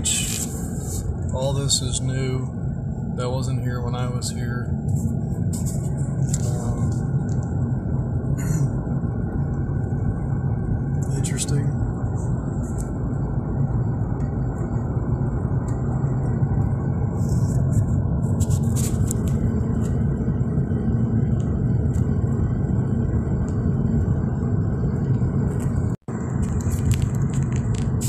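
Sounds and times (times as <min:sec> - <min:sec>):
car cabin road rumble: 0:00.0 - 0:28.0.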